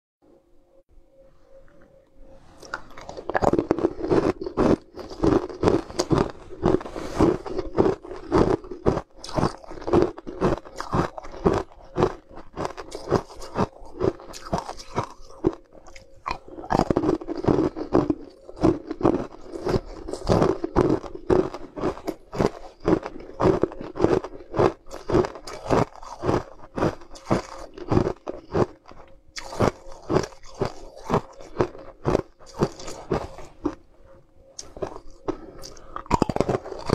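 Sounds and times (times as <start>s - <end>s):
ice crunching while chewed: 2.6s - 36.9s.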